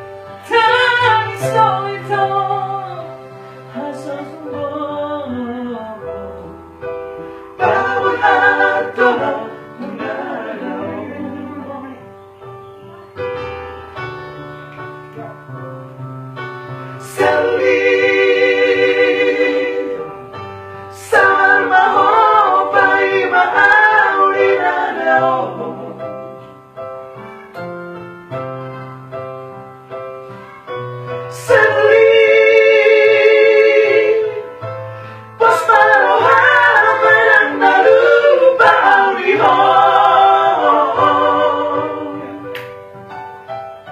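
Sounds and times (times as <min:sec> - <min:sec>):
vocal trio singing in harmony: 0:00.0 - 0:12.4, 0:16.7 - 0:26.7, 0:30.2 - 0:43.2.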